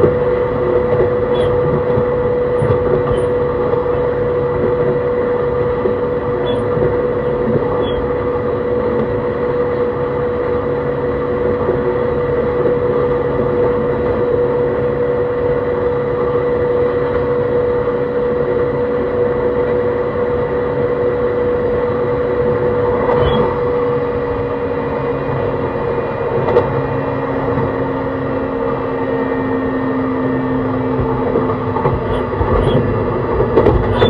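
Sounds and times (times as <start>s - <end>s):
traction motor hum: 0.0s - 34.0s
train wheels rolling on rail: 0.0s - 34.0s.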